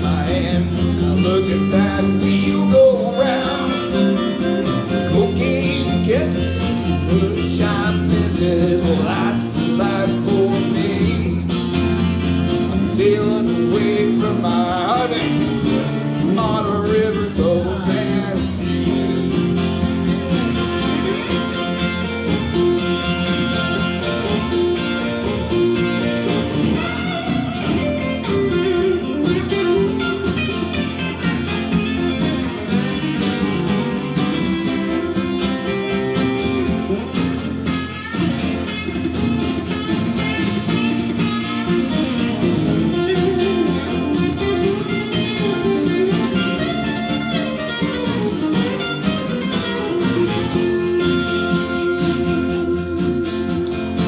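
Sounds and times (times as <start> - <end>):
blues-rock band playing: 0.0 - 54.0
electric guitar solo: 0.0 - 54.0.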